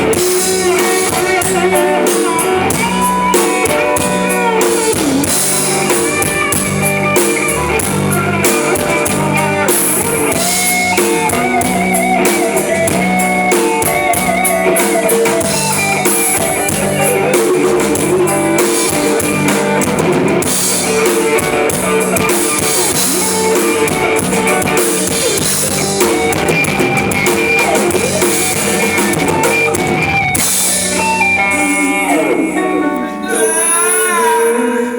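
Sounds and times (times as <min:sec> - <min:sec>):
bass guitar: 0:00.0 - 0:33.7
drum kit with cymbals: 0:00.0 - 0:33.9
guitar bending melody: 0:00.0 - 0:34.6.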